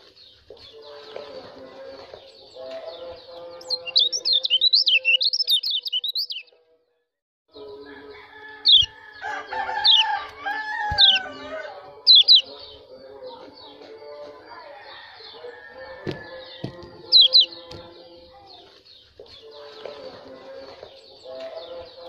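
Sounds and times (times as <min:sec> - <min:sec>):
bird chirping: 0:00.0 - 0:06.6, 0:08.6 - 0:22.0.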